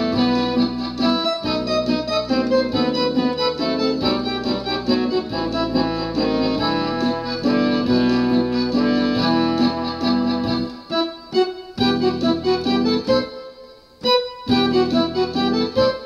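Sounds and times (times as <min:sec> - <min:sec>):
electronic keyboard music: 0:00.0 - 0:16.0.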